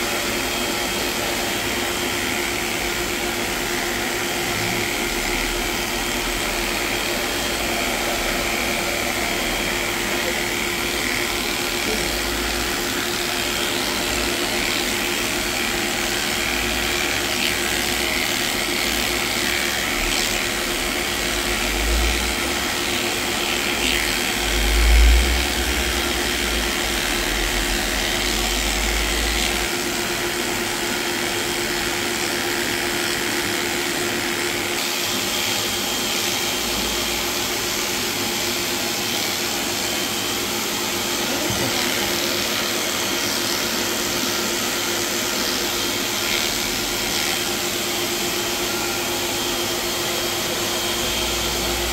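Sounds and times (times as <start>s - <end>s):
electric clipper humming: 0.0s - 51.9s.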